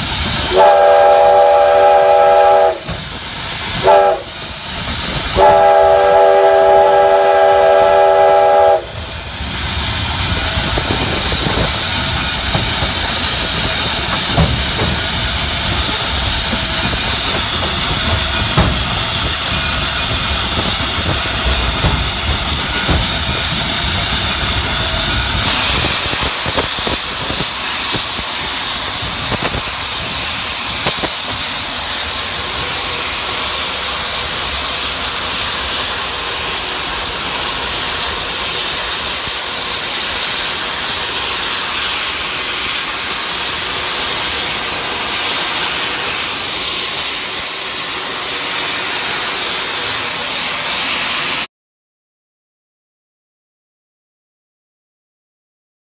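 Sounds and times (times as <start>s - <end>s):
steam locomotive hissing: 0.0s - 51.5s.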